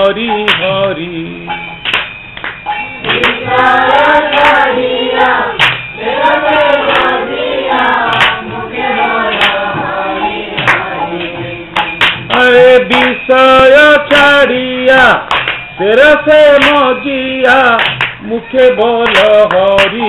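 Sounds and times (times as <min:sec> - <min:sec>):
sharp percussive strokes: 0:00.0 - 0:20.0
group singing in unison: 0:02.9 - 0:20.0.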